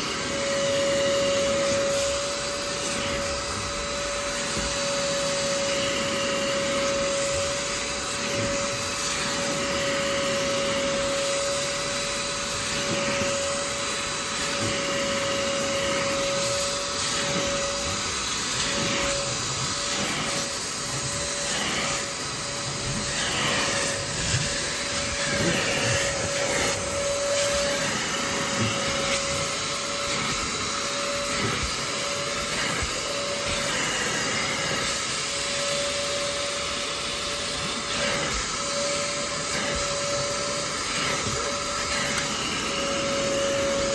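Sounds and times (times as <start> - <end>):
suction motor whine: 0.0 - 43.9.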